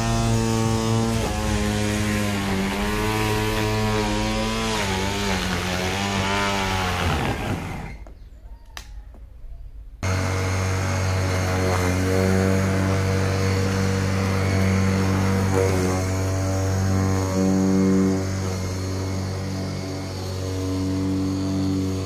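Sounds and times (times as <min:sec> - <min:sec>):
lawnmower motor and blade hum: 0:00.0 - 0:08.1, 0:10.0 - 0:22.0.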